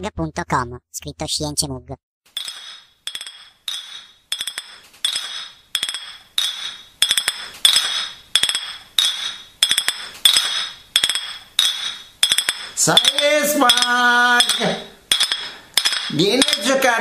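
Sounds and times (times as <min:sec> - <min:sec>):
small hard object clinking: 0:02.3 - 0:16.8.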